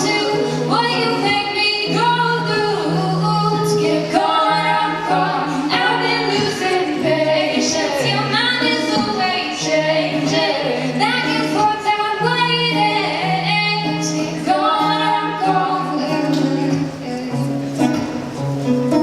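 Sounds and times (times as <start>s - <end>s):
women singing wordless harmony: 0.0s - 18.1s.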